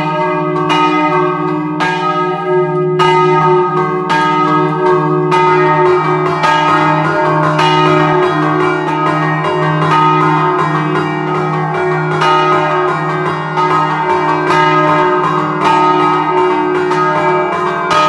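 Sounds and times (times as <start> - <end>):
church bells struck by hand: 0.0 - 18.0.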